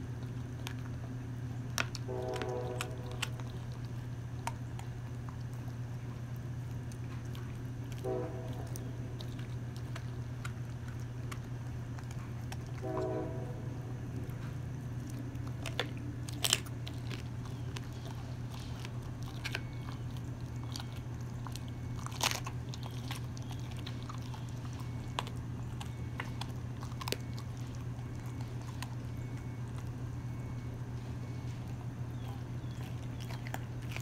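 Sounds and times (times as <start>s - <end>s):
bone crunching: 0.0s - 13.3s, 14.2s - 34.0s
dog gnawing wetly: 0.0s - 34.0s
steady low hum: 0.0s - 34.0s.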